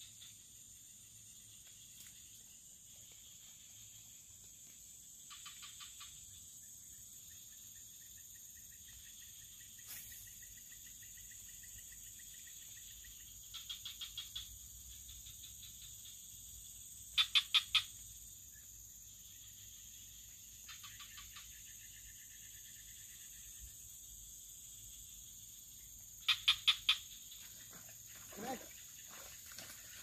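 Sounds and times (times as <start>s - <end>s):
frogs calling: 0.0s - 30.0s
high drone of insects: 0.0s - 30.0s.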